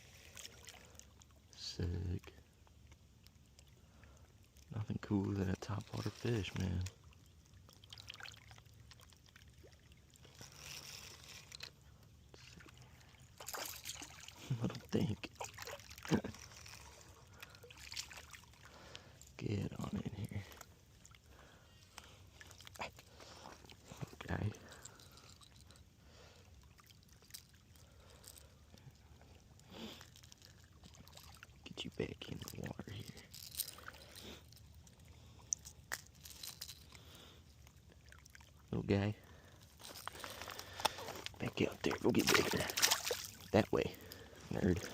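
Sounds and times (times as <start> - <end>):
water trickling and dripping: 0.2 - 44.9.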